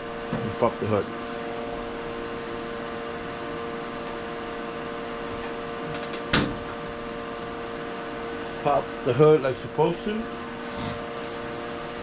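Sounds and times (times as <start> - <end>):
steady hum with tones: 0.0 - 12.0.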